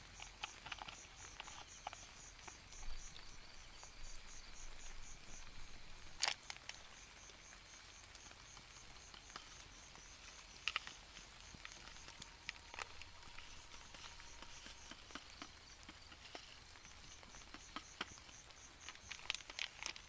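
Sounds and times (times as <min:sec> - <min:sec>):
sharp ticks: 0:00.0 - 0:05.5, 0:06.2 - 0:20.0
insect chirping: 0:00.0 - 0:20.0
raindrops tapping on a tent: 0:00.0 - 0:20.0.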